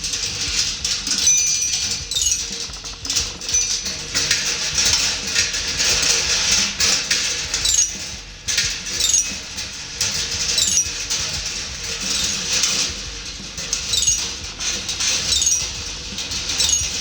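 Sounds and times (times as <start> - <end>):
marbles rattling on metal tracks: 0.0 - 17.0.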